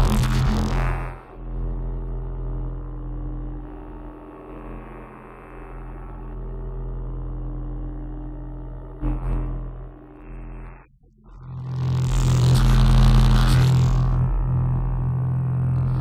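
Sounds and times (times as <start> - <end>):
electronic drone with ringing tones: 0.0 - 16.0.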